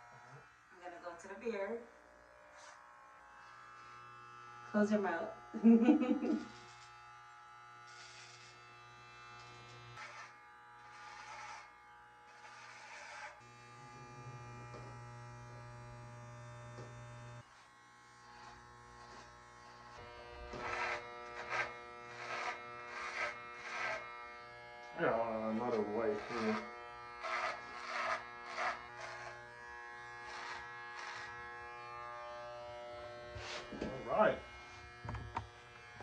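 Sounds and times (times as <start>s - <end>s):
electric hair clippers buzzing: 0.0s - 36.0s.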